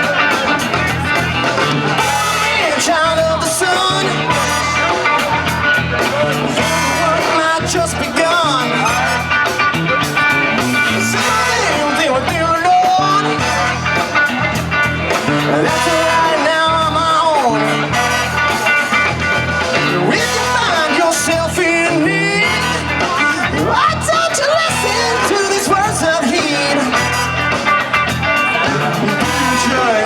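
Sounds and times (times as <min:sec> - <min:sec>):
live blues rock band: 0:00.0 - 0:30.0.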